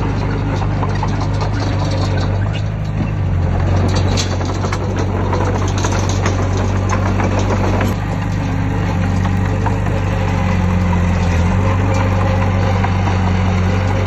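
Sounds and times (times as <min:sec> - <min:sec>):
heavy diesel engine running: 0:00.0 - 0:14.0
knocks and clanks: 0:00.0 - 0:14.0.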